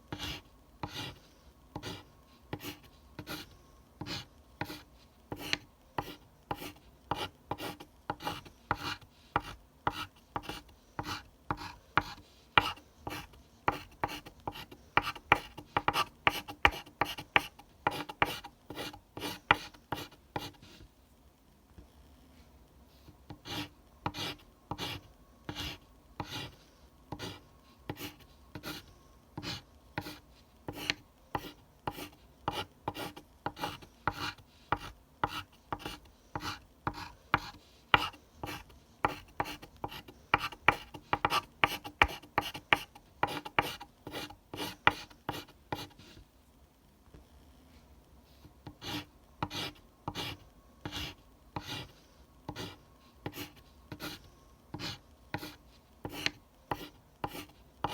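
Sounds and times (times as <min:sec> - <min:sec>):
pencil scratching on paper: 0:00.1 - 0:01.2, 0:01.8 - 0:20.9, 0:23.3 - 0:46.2, 0:48.4 - 0:57.9.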